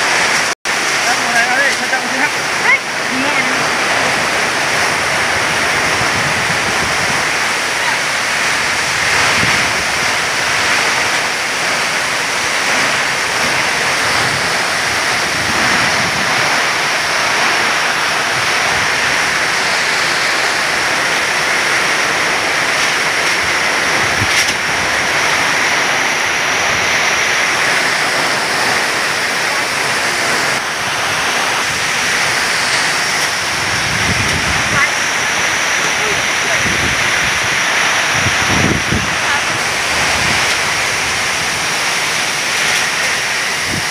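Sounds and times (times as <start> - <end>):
heavy rain pouring: 0.0 - 43.9
wind rushing through trees: 0.0 - 43.9.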